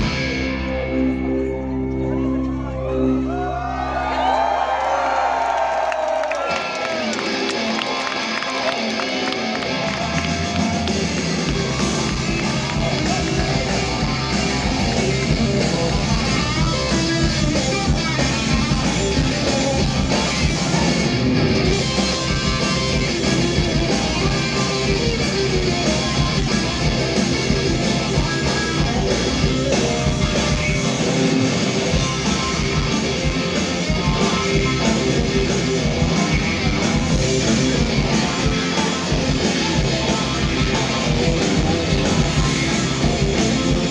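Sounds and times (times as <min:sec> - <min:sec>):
drum kit: 0:00.0 - 0:00.7, 0:07.2 - 0:43.9
electric guitar: 0:00.0 - 0:04.2, 0:06.1 - 0:43.9
bass guitar: 0:00.0 - 0:43.9.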